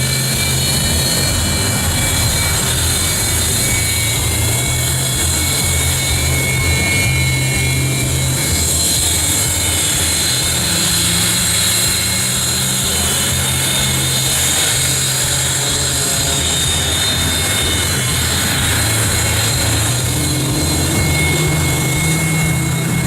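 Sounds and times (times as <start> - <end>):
jet engines idling: 0.0 - 23.0.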